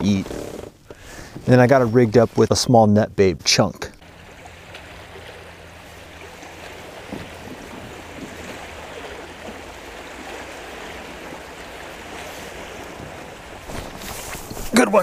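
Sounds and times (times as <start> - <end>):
waves lapping against hull: 0.0 - 2.7, 3.4 - 15.0.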